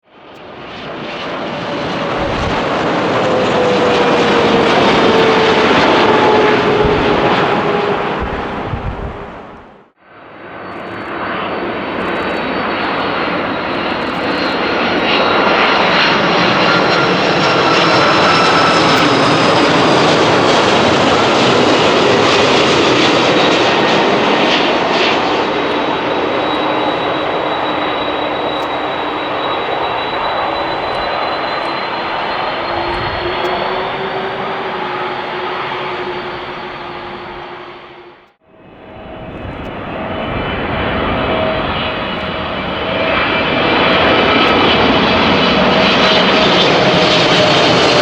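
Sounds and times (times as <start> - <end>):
jet airliner engines rumbling: 0.1 - 48.0.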